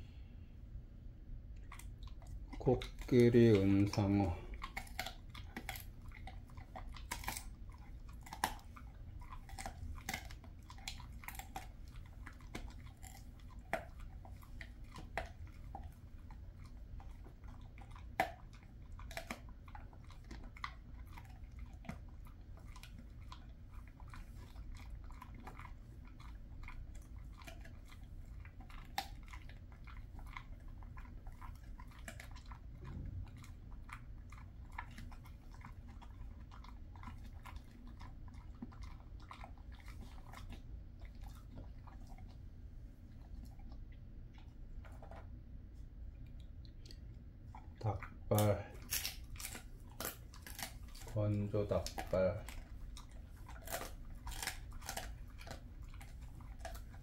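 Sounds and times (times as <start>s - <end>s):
dog chewing treat crunching: 1.5s - 57.0s.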